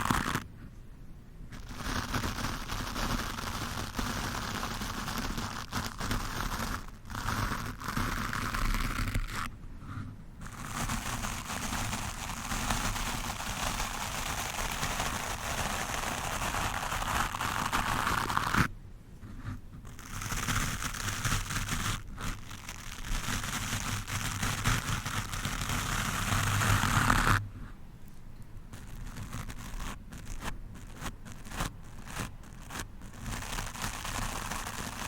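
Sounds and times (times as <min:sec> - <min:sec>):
brush scrubbing a microphone: 0:00.0 - 0:00.5, 0:01.6 - 0:35.0.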